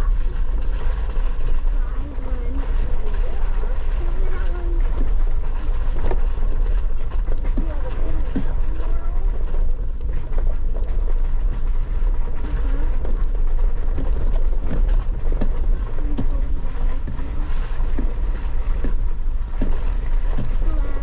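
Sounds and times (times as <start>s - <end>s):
vehicle engine and tyres rumbling: 0.0s - 21.0s.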